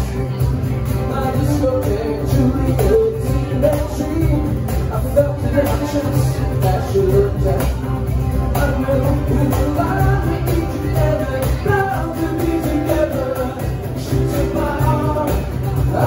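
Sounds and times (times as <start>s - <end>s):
live rock band playing: 0.0s - 16.0s
person singing: 1.0s - 16.0s.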